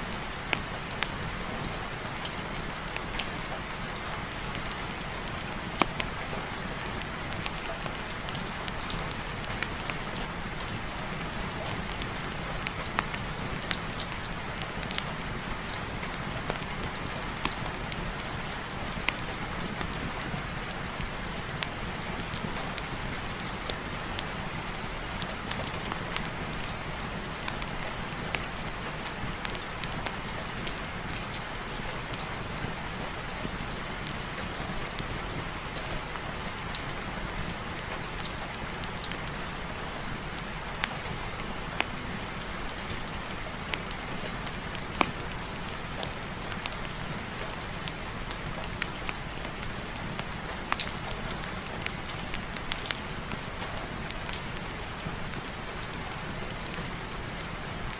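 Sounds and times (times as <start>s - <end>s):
heavy rain: 0.0s - 57.9s
sharp rain ticks: 0.0s - 57.9s.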